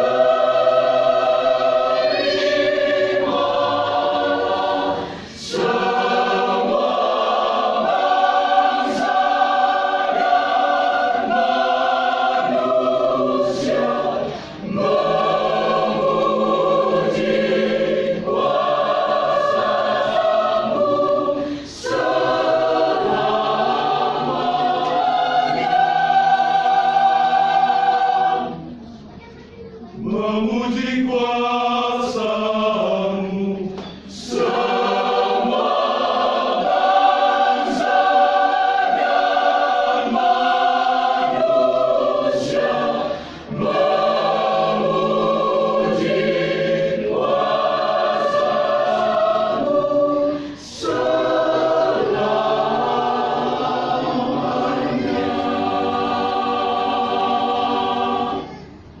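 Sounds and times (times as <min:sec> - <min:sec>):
church choir singing: 0:00.0 - 0:29.0, 0:30.0 - 0:59.0.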